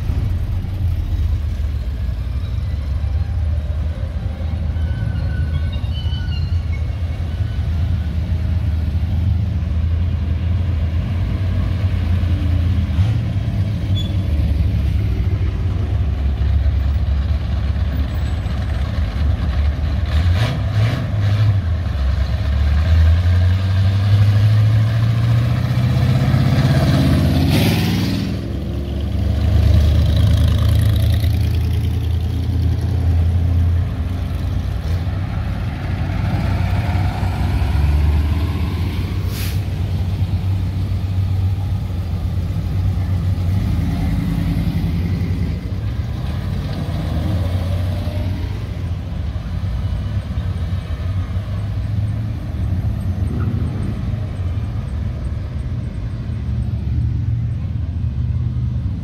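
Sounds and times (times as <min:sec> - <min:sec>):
car engines idling and accelerating: 0:00.0 - 0:59.0
fire engine rumbling past: 0:00.0 - 0:59.0.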